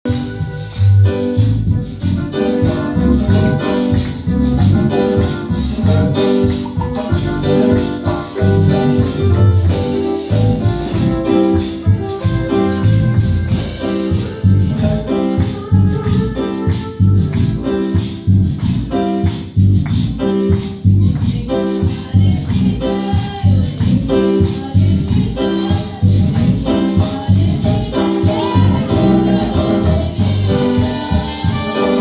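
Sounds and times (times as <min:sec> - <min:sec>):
latin-style instrumental music: 0:00.0 - 0:32.0
maracas shaking: 0:00.0 - 0:32.0.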